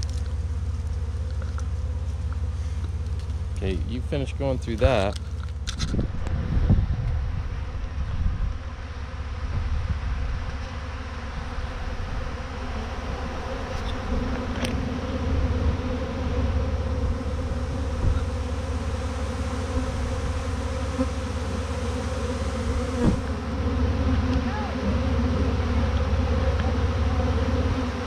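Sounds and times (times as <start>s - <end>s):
bee swarm buzzing: 0.0s - 28.0s.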